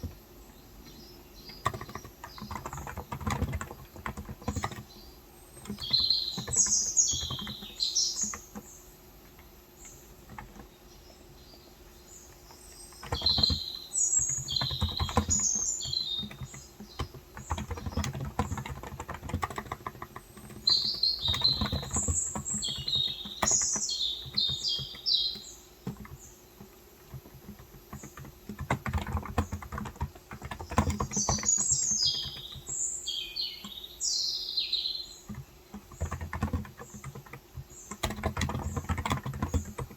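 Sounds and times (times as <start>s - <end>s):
birds twittering: 0.0s - 39.9s
keyboard typing: 0.9s - 11.2s, 12.3s - 33.9s, 35.0s - 39.9s.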